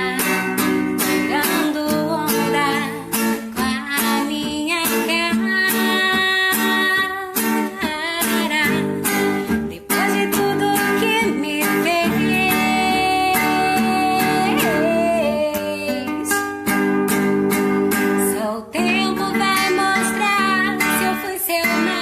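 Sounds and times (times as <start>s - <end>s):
guitar accompaniment: 0.0s - 22.0s
woman singing: 0.0s - 22.0s.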